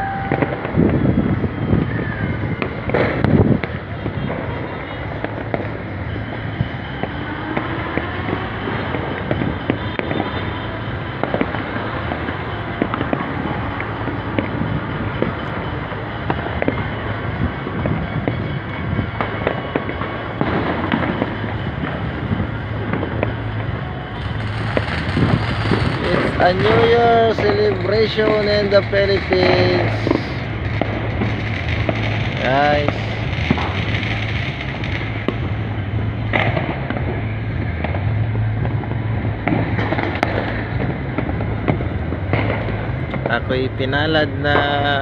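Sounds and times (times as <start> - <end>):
fireworks crackling and banging: 0.0 - 45.0.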